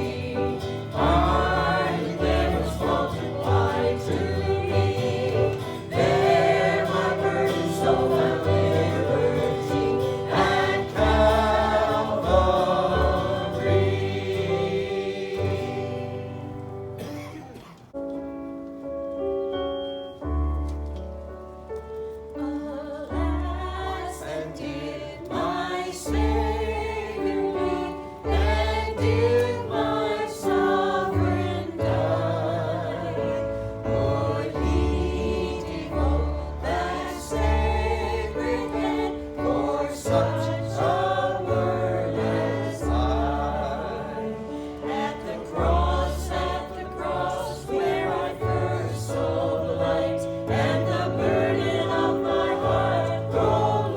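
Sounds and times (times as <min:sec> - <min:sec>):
group singing gospel song: 0:00.0 - 0:17.1, 0:22.4 - 0:53.9.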